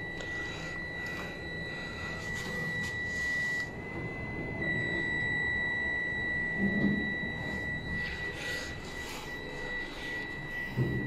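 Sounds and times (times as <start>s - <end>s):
high-pitched elevator buzzer: 0.0s - 11.0s.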